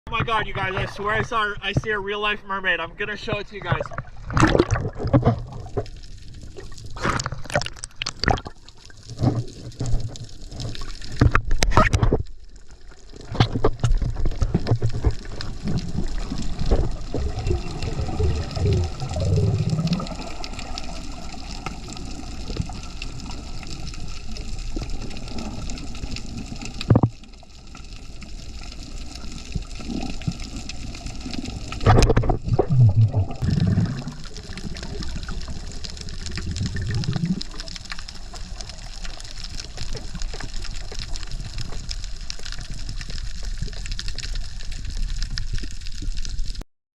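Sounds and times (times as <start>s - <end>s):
water rushing: 3.0s - 11.6s, 12.7s - 43.1s
water splashing: 3.3s - 46.6s.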